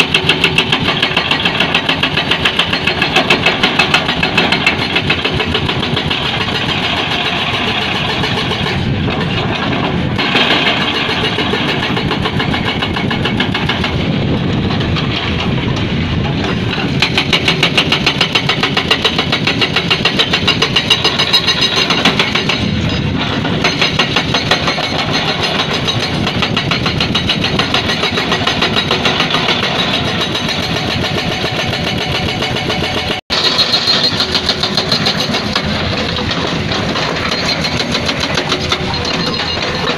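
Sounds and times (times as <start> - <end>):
hydraulic breaker hammering rock: 0.0 - 39.9.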